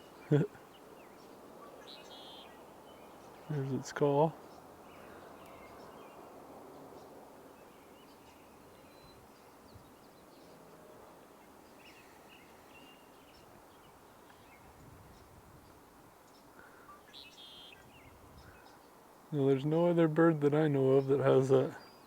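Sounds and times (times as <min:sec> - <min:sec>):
blackbirds chirping: 0:00.0 - 0:22.0
low steady outdoor hiss: 0:00.0 - 0:22.0.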